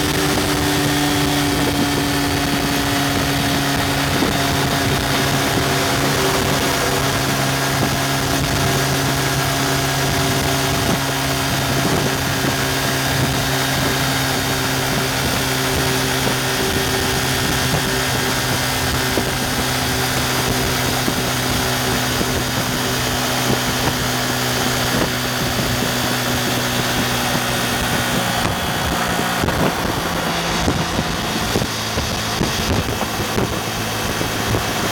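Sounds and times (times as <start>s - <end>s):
motorcycle engine at high revs: 0.0s - 34.9s
wind noise: 0.0s - 34.9s.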